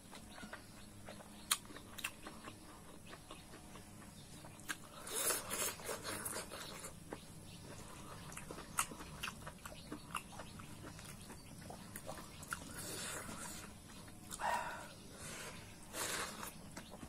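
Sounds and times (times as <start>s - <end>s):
wet chewing and mouth clicks: 0.1s - 14.6s.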